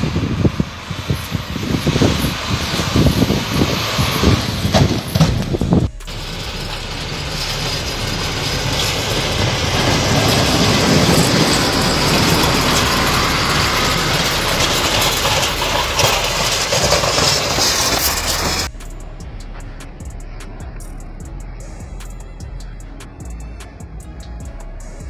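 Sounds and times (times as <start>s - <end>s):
snowplow truck pushing snow: 0.0s - 21.1s.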